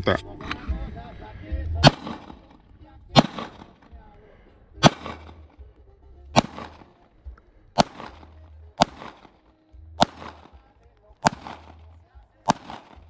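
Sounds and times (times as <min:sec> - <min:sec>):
pistol gunshots with echo: 0:01.8 - 0:13.0.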